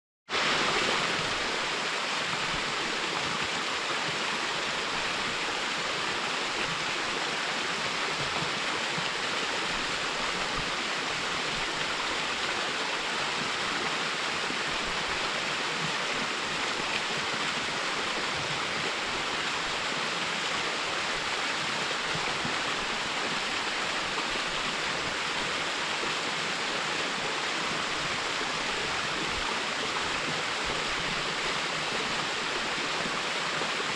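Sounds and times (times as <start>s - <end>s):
water rushing over rocks: 0.3s - 33.9s.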